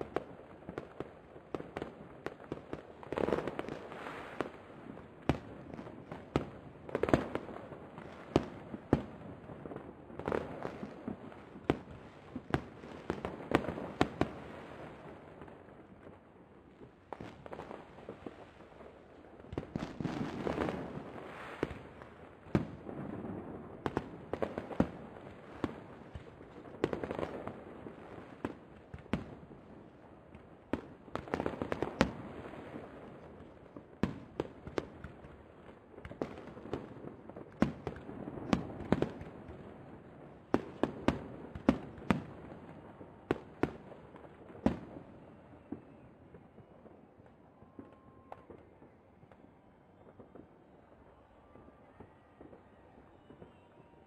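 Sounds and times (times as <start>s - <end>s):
fireworks bursting: 0.0s - 16.2s, 16.8s - 54.0s.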